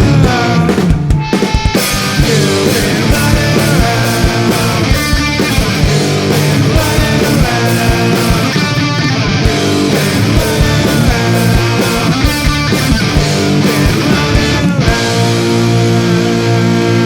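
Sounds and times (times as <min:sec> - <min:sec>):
fast rock music: 0:00.0 - 0:17.0.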